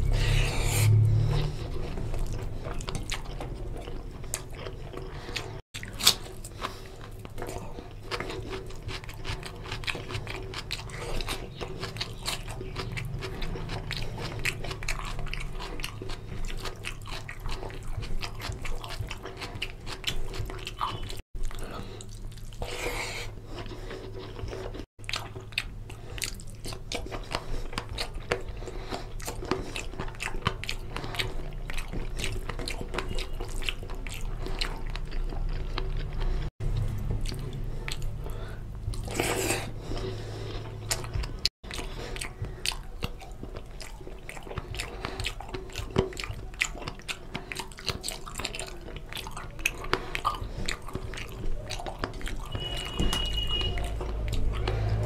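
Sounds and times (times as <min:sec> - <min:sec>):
man chewing with wet smacking: 0:00.0 - 0:55.0.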